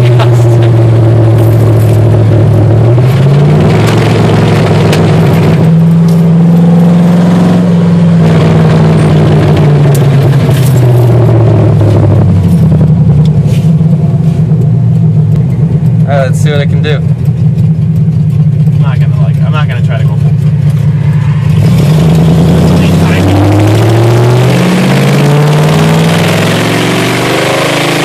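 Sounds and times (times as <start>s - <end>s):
loud car engine revving: 0.0s - 28.0s.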